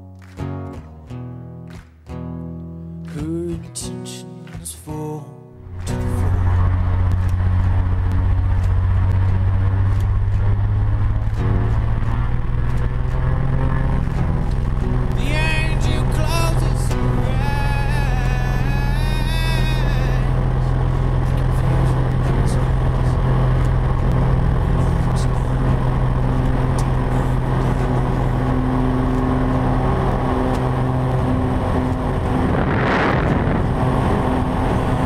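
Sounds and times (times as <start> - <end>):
rush of wind: 5.7 - 35.0
light aircraft engine and propeller: 5.8 - 35.0.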